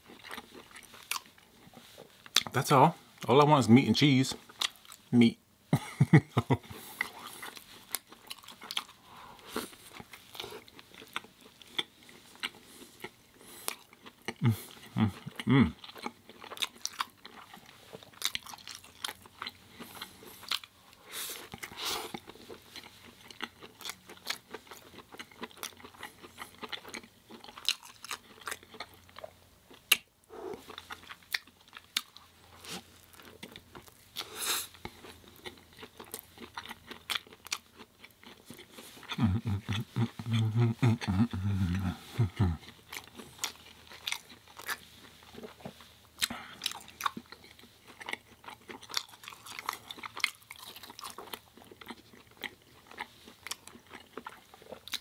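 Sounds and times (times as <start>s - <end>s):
person chewing food: 0.0s - 3.3s, 4.4s - 5.1s, 5.8s - 55.0s.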